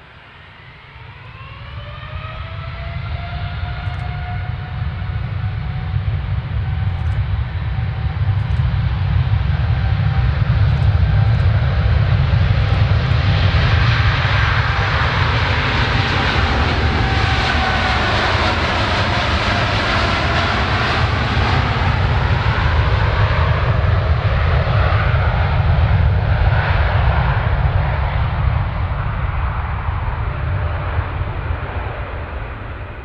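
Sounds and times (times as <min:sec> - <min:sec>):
jet airliner passing: 0:00.0 - 0:33.0.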